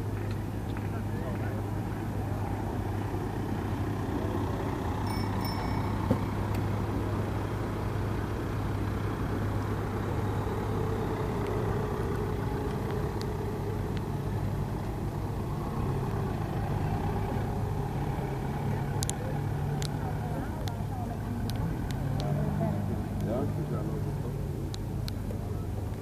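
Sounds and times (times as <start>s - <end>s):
van engine driving past: 0.0s - 26.0s.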